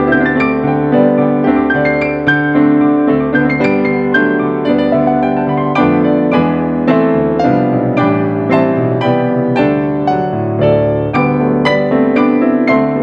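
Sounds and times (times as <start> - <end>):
acoustic piano playing chords: 0.0 - 13.0.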